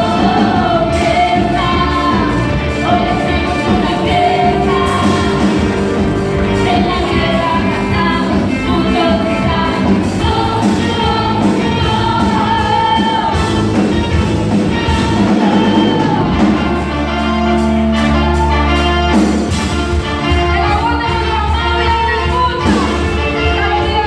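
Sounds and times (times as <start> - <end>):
worship song with band: 0.0 - 24.0.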